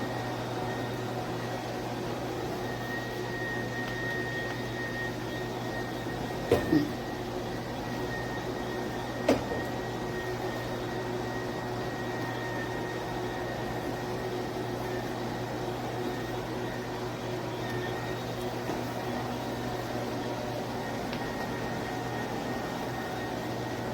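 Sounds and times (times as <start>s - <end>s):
spin mop motor humming: 0.0s - 23.9s.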